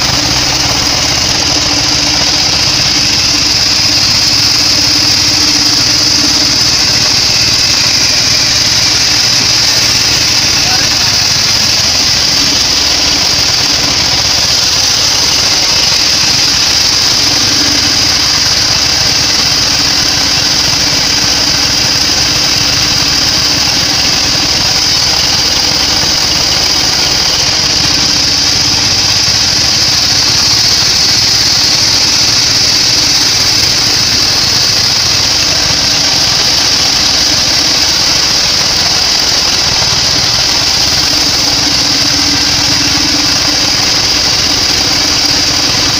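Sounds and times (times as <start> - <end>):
band saw cutting wood: 0.0 - 45.9.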